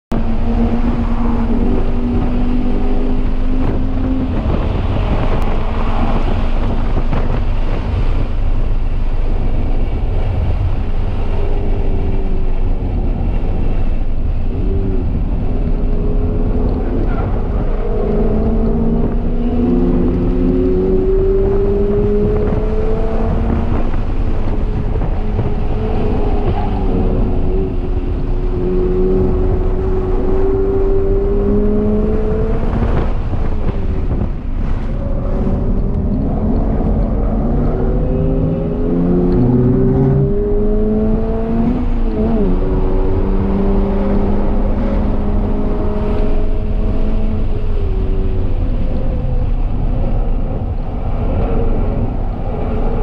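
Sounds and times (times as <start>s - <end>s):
car engine pulling hard: 0.1s - 53.0s
road rumble: 0.1s - 53.0s
wind noise: 0.1s - 53.0s.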